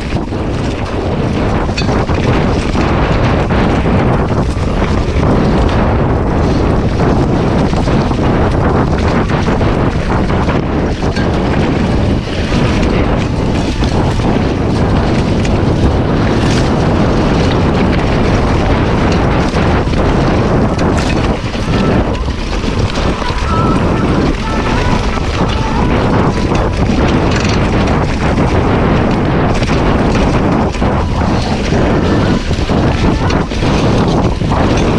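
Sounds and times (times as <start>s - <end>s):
heavy wind buffeting microphone: 0.0s - 34.9s.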